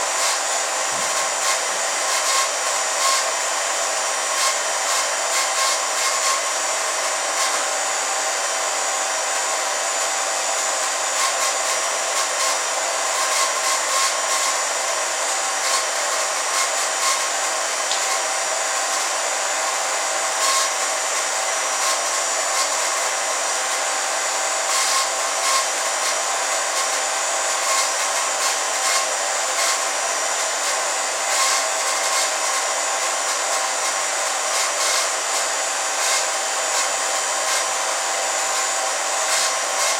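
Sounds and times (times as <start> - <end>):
steady mechanical whir: 0.0 - 39.9.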